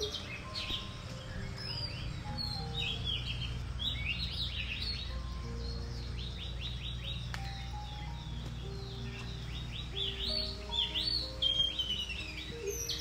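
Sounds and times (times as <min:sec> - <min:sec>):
birds whistling: 0:00.0 - 0:13.0
soft background music: 0:00.0 - 0:13.0.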